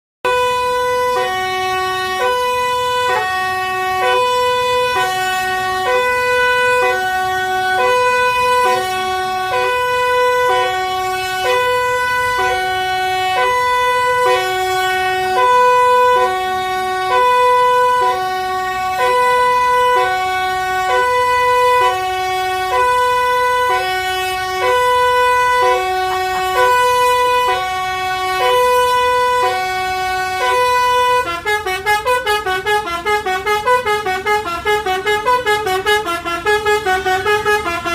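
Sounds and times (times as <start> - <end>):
musical air horn playing siren tune: 0.2 - 37.9.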